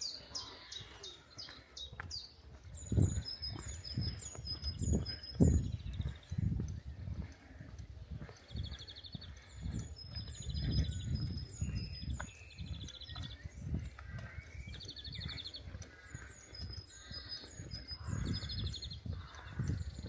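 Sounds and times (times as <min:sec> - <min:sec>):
small birds singing: 0:00.0 - 0:20.0.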